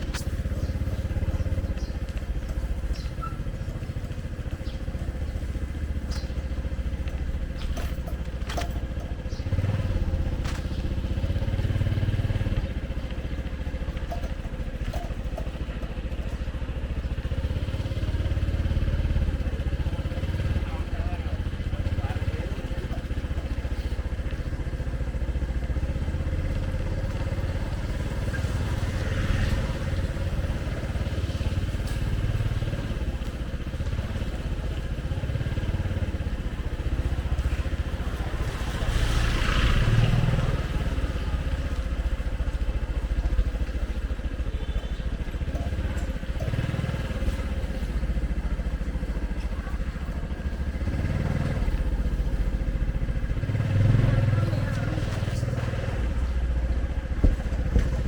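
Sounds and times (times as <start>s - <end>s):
street traffic with motorbikes: 0.0s - 58.0s.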